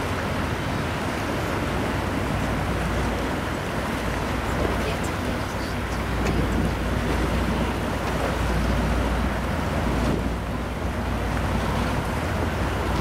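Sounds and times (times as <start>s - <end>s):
powerboat engine: 0.0s - 13.0s
wind buffeting microphone: 0.0s - 13.0s.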